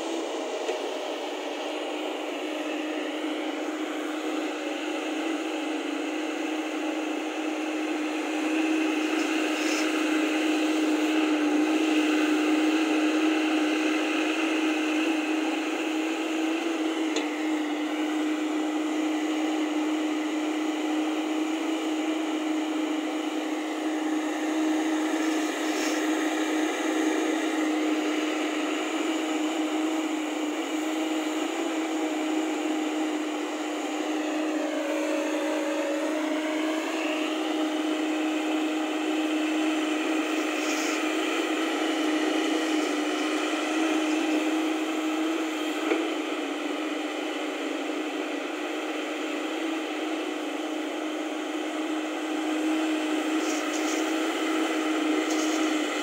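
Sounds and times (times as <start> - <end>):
excavator diesel engine: 0.0 - 56.0
hydraulic whine: 0.0 - 56.0.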